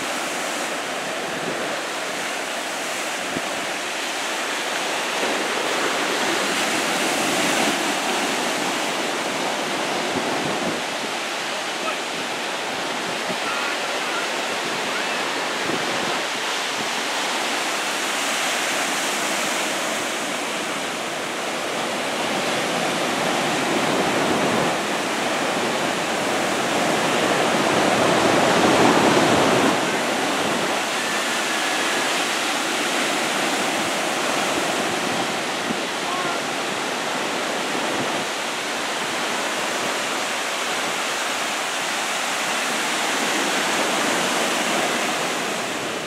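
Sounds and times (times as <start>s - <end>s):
surf breaking on a beach: 0.0s - 46.0s.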